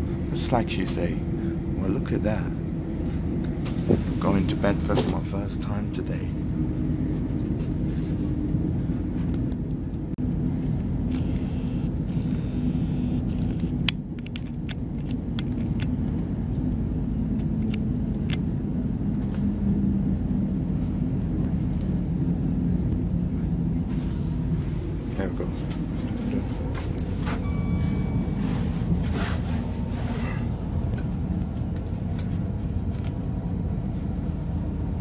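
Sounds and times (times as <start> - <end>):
train diesel engine rumble: 0.0 - 11.3, 15.2 - 35.0.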